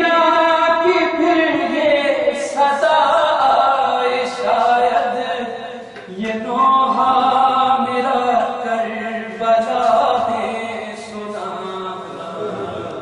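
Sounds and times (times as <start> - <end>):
man chanting a lament: 0.0 - 13.0.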